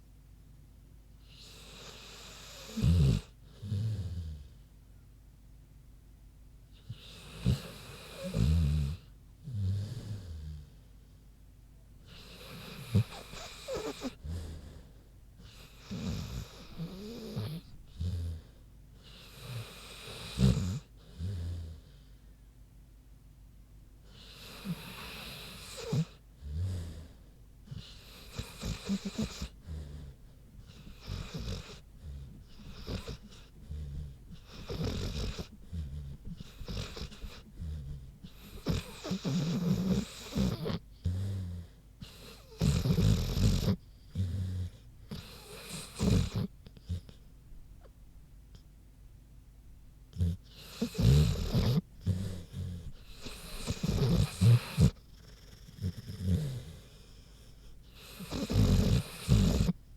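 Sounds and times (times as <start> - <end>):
dog snoring: 1.2 - 4.6, 6.8 - 10.8, 12.0 - 22.1, 24.0 - 47.2, 50.1 - 59.8.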